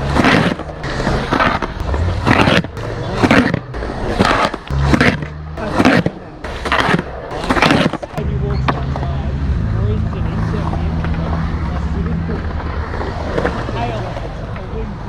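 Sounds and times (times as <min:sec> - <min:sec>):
skateboard wheels rolling: 0:00.0 - 0:09.2, 0:10.5 - 0:15.0
skateboard grinding: 0:00.0 - 0:09.3, 0:10.0 - 0:14.8.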